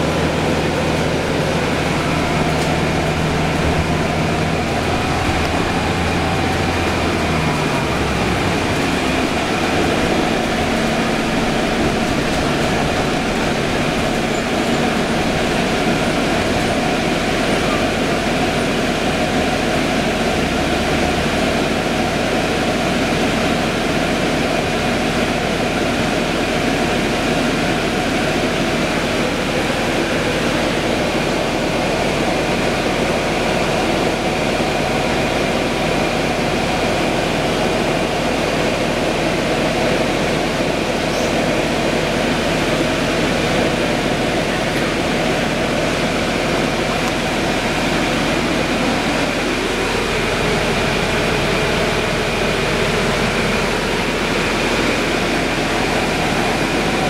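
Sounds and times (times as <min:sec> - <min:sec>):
bus engine and fans droning: 0:00.0 - 0:57.0.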